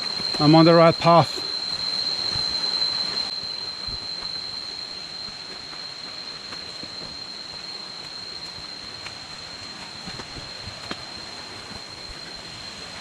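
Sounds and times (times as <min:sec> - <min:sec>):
insects droning high-pitched: 0:00.0 - 0:13.0.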